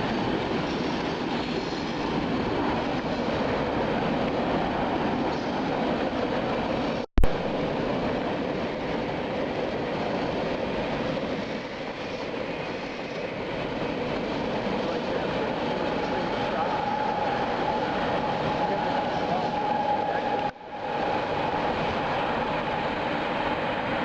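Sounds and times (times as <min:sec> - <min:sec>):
train cars rolling on rails: 0:00.0 - 0:24.0.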